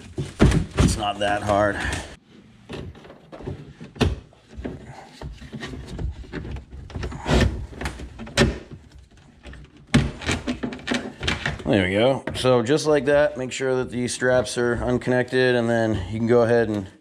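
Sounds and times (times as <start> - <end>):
rubbing and rattling: 0.0 - 15.2.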